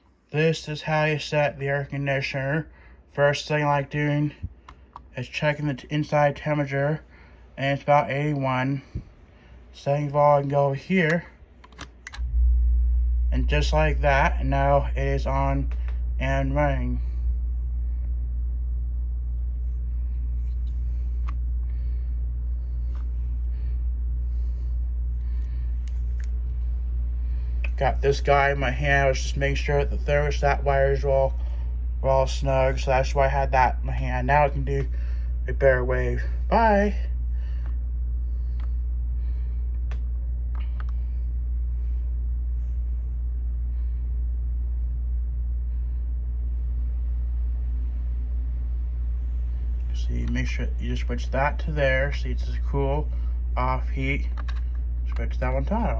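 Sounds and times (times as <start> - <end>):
air conditioner low rumble: 0.0 - 55.9.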